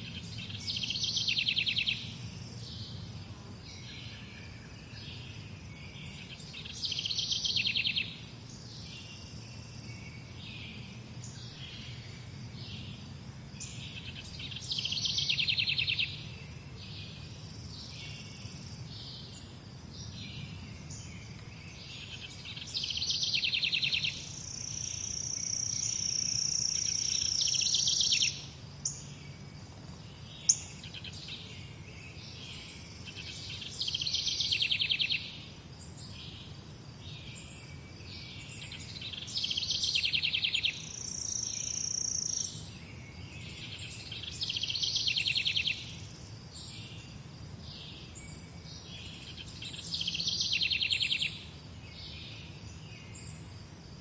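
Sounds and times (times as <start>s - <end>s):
bird song with fast trill: 0.0s - 13.0s, 13.6s - 53.5s
faint low background hum: 0.0s - 54.0s.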